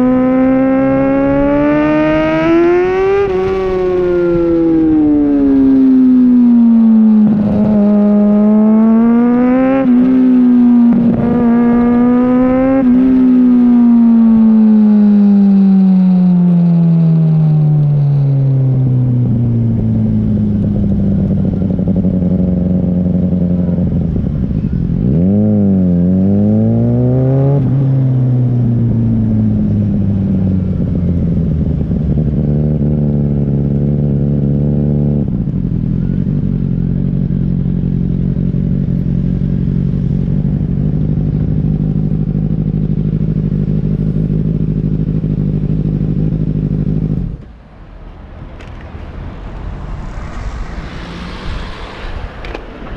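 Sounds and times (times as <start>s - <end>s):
motorcycle engine while riding: 0.0s - 47.6s.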